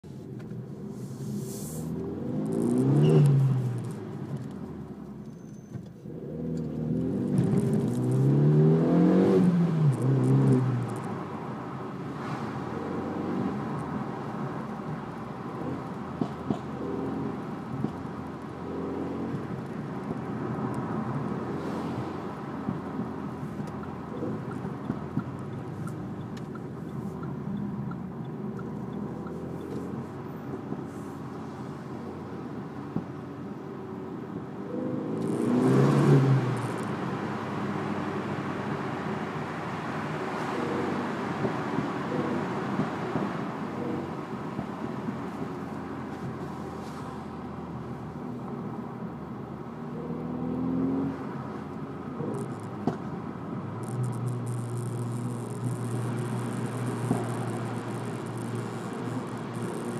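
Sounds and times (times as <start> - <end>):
car engine and exhaust revving: 0.0 - 59.9.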